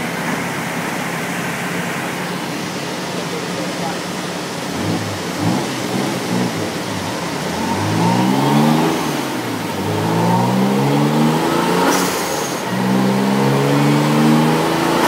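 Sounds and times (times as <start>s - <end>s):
engine revving through gears: 1.7s - 15.0s.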